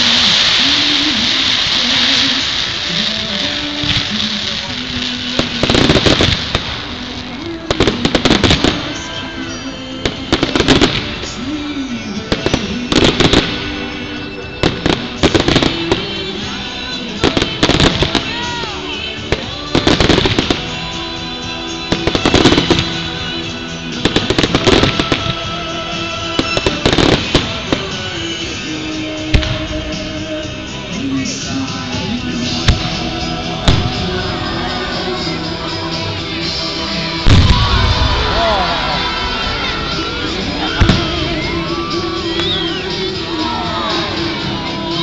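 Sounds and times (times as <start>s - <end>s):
fireworks bangs and crackles: 0.0s - 45.0s
music playing: 0.0s - 45.0s.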